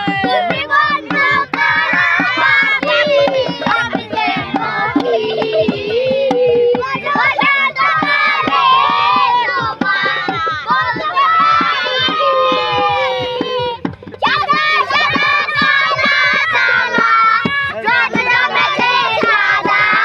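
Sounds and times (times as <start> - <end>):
children singing and shouting: 0.0 - 20.0
claps or beats: 0.0 - 20.0.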